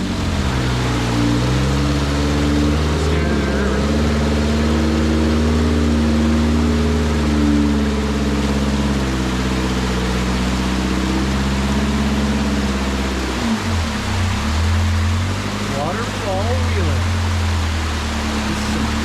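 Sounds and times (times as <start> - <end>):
buggy engine running at low revs: 0.0 - 19.0.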